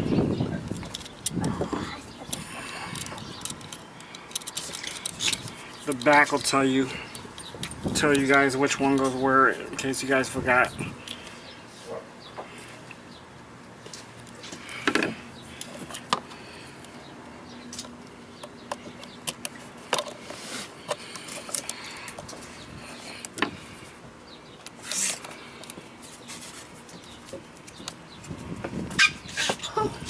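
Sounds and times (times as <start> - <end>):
low outdoor background: 0.0 - 30.0.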